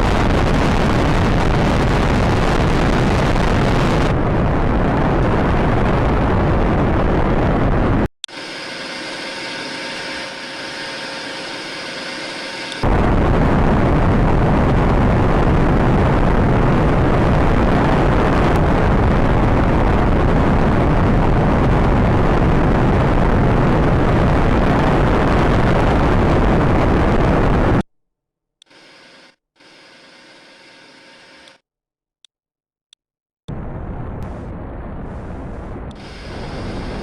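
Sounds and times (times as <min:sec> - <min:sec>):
loud rumbling rocket engines: 0:00.0 - 0:27.8, 0:33.5 - 0:37.0.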